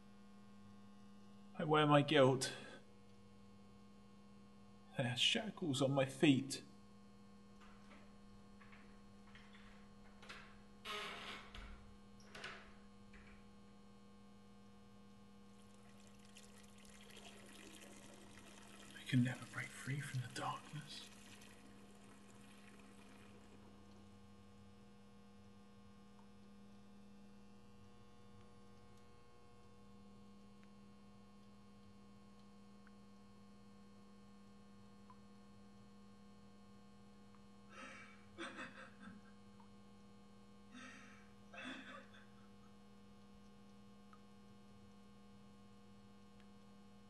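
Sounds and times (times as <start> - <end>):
faint electrical hum: 0.0 - 47.0.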